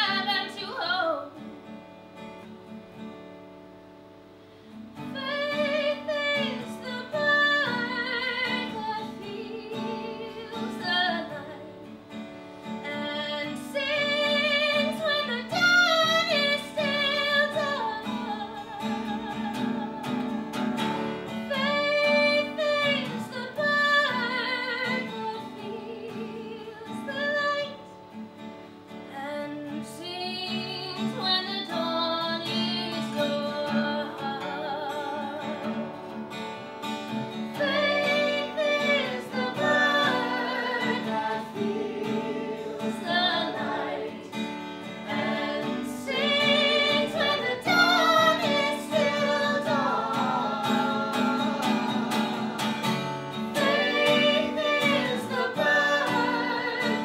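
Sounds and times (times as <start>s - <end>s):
women singing: 0.0s - 1.4s, 5.0s - 11.9s, 12.8s - 20.5s, 21.3s - 27.8s, 29.1s - 35.8s, 37.5s - 57.0s
acoustic guitar: 0.0s - 57.0s.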